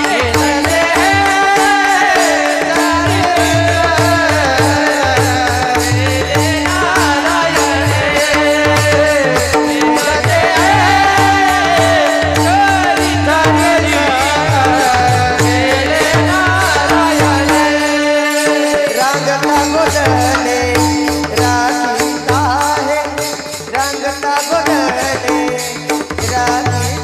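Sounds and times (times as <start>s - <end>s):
drum beat: 0.0s - 27.0s
man singing devotional song: 0.0s - 27.0s.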